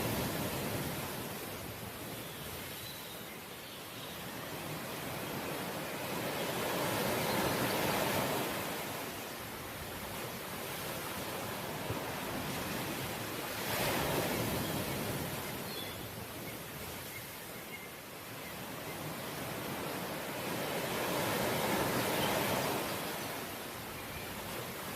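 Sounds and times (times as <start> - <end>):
ocean waves breaking on shore: 0.0 - 24.9.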